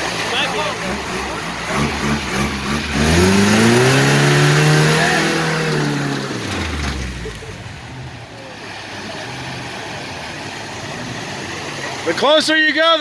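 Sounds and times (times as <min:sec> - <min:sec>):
off-road vehicle engine revving: 0:00.0 - 0:12.2.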